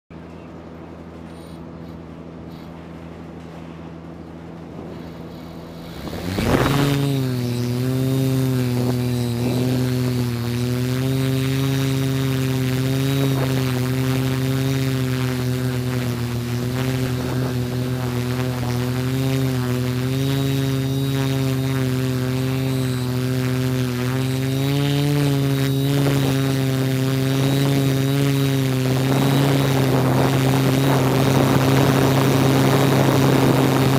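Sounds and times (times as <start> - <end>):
drone motors humming: 0.1 - 33.9
drone rotors spinning up and whining: 0.9 - 33.9.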